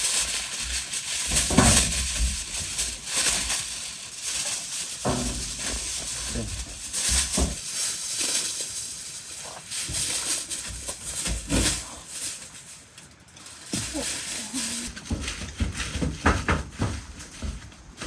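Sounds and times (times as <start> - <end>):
aluminium foil crinkling: 0.0 - 18.0.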